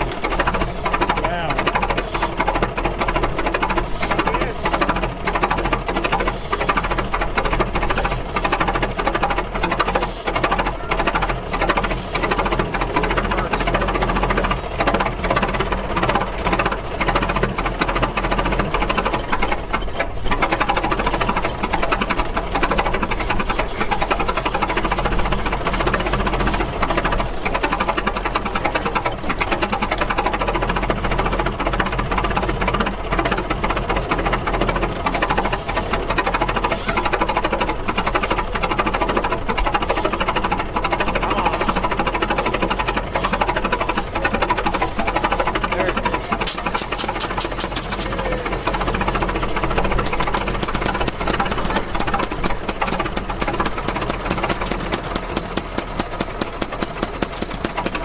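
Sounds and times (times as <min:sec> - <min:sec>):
gas engines clattering: 0:00.0 - 0:58.0.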